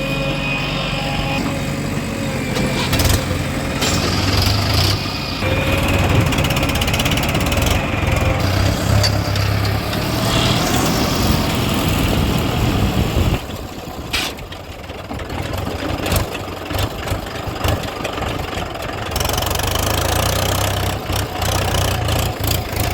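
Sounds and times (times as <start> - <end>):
diesel engine rumbling: 0.0 - 22.9.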